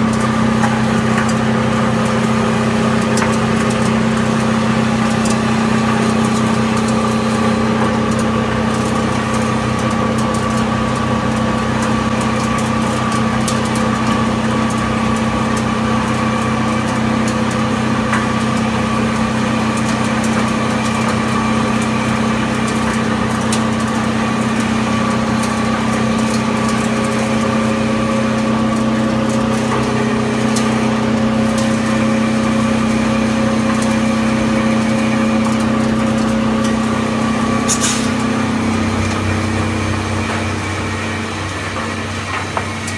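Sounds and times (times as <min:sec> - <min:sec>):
steady machine hum: 0:00.0 - 0:42.9.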